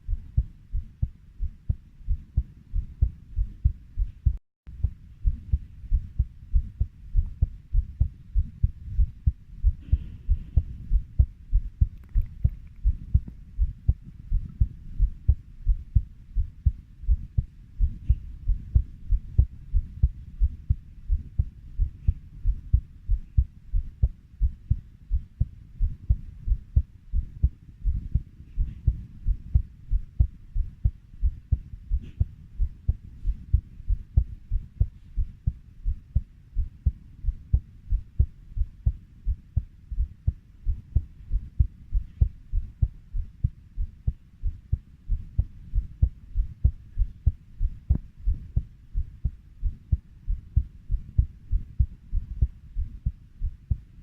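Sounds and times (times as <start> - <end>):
heartbeat thuds: 0.0 - 54.0.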